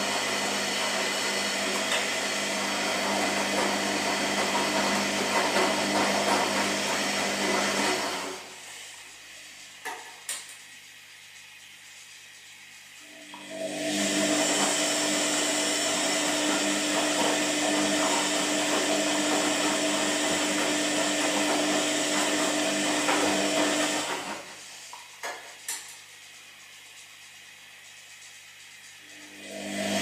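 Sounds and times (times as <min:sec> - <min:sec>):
washing machine motor running: 0:00.0 - 0:30.0.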